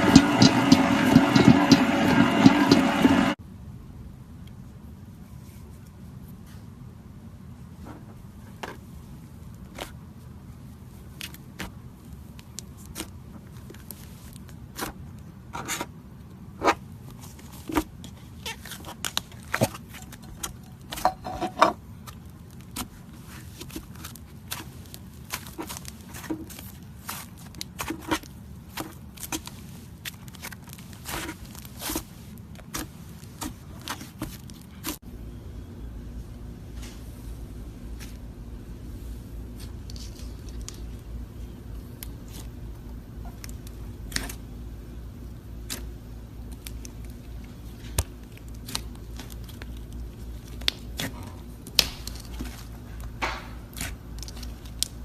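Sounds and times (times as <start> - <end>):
steady low hum: 0.0 - 18.4, 19.6 - 55.0.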